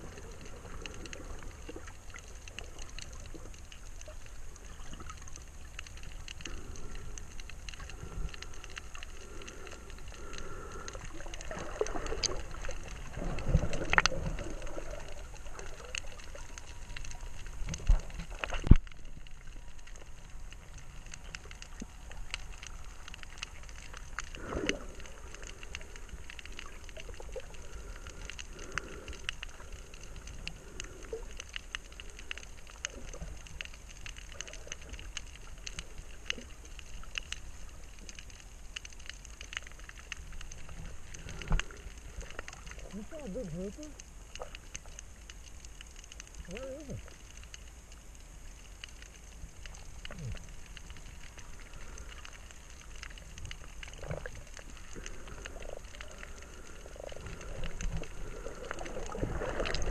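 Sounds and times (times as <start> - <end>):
faint clicks: 0.0 - 59.9
water gurgling and trickling: 0.0 - 59.9.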